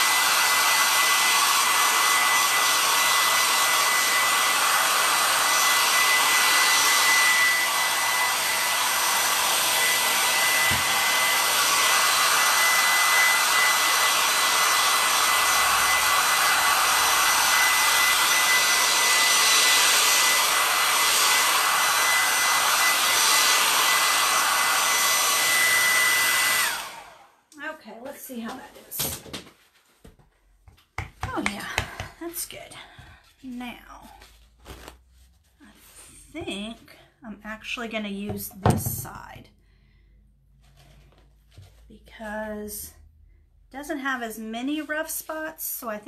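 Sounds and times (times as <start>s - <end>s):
hair dryer blowing: 0.0s - 29.3s, 30.8s - 34.9s, 35.6s - 39.4s.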